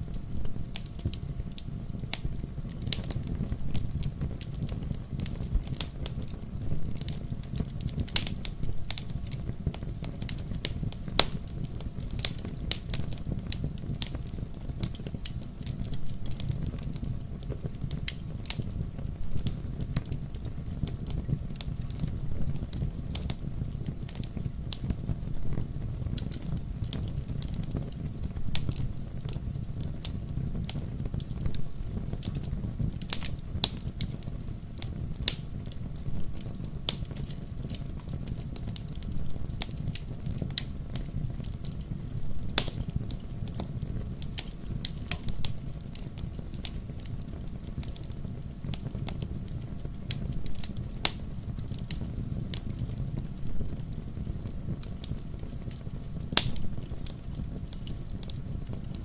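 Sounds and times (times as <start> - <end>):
bonfire crackling and popping: 0.0 - 59.0
low fire rumble: 0.0 - 59.0.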